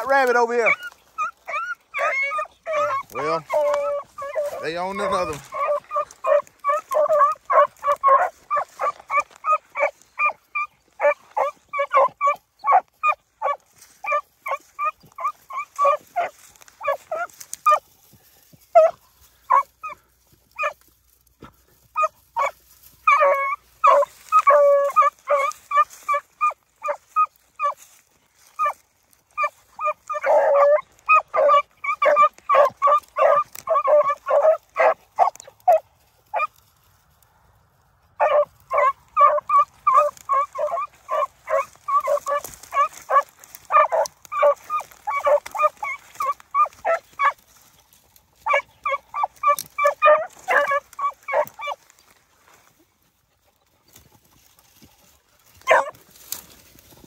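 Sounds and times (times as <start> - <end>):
dogs barking: 0.0 - 36.6, 38.1 - 52.6, 53.4 - 57.0.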